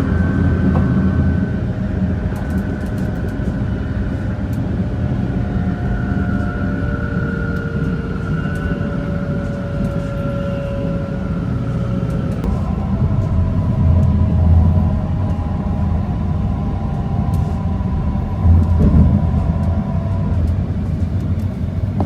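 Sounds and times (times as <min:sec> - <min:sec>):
faint drawn-out whining tones: 0:00.0 - 0:22.0
train running rumble: 0:00.0 - 0:22.0.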